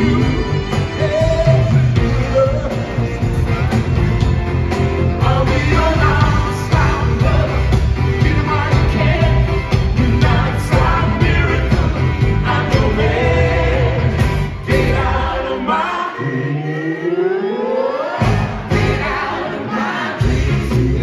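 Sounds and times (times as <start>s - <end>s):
live pop band playing: 0.0s - 16.4s, 18.1s - 21.0s.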